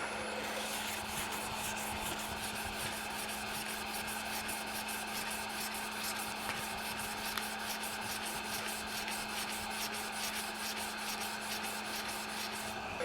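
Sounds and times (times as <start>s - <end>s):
lathe humming: 0.0s - 13.0s
sandpaper hissing on spinning wood: 0.4s - 12.8s.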